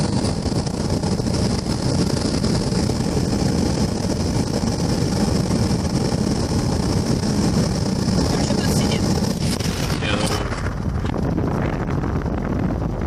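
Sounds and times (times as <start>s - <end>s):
electric train running: 0.0s - 10.8s
road vehicle rumble at speed: 0.0s - 13.0s.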